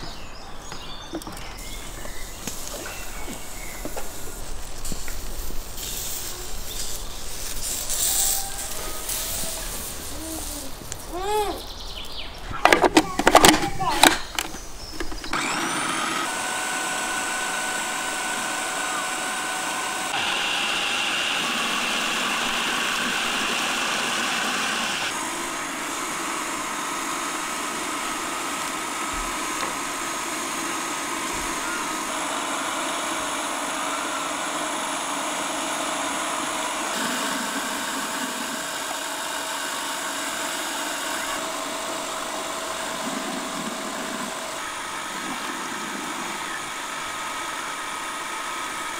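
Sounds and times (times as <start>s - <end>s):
food processor motor whining: 1.1s - 11.7s, 12.6s - 48.9s.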